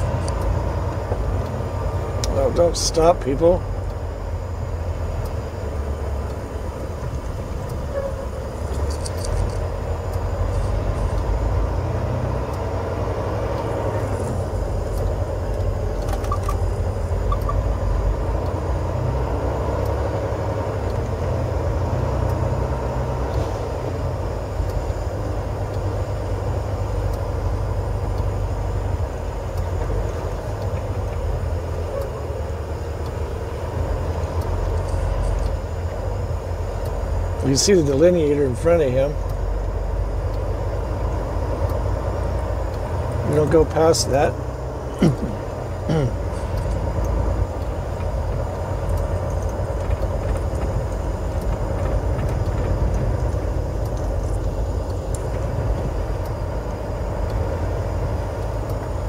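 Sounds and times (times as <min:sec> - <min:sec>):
truck engine and road drone: 0:00.0 - 0:59.0.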